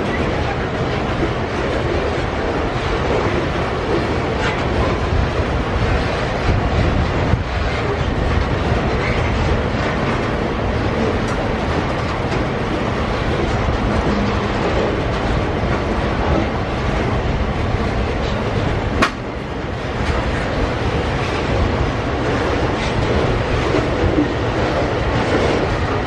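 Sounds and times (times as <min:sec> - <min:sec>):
freight wagons rumbling on rails: 0:00.0 - 0:26.0.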